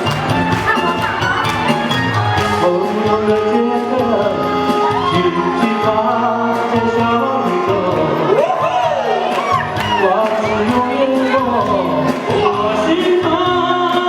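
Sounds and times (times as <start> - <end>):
instrumental song accompaniment: 0.0 - 14.0.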